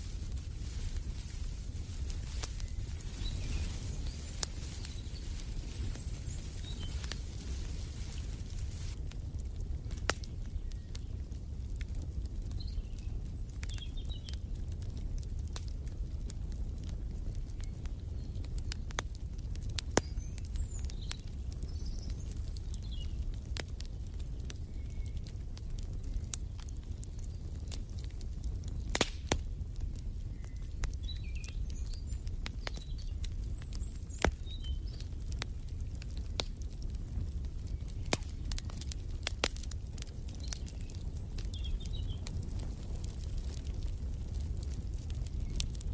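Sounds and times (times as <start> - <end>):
fire pops: 0.0 - 45.9
wood fire crackling: 0.0 - 45.9.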